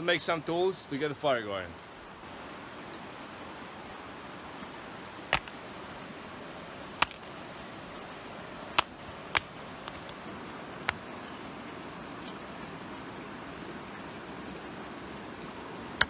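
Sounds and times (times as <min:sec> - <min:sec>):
creek rushing: 0:00.0 - 0:16.0.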